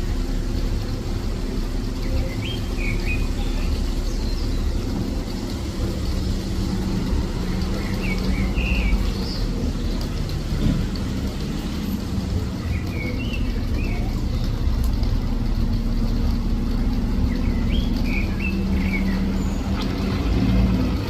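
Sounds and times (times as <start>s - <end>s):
vehicle engine running: 0.0s - 21.0s
birds chirping: 0.1s - 21.0s.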